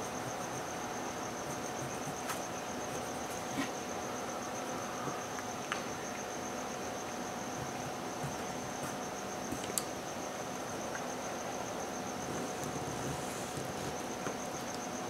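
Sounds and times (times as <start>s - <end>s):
cricket chirping: 0.0s - 15.0s
steady hiss: 0.0s - 15.0s.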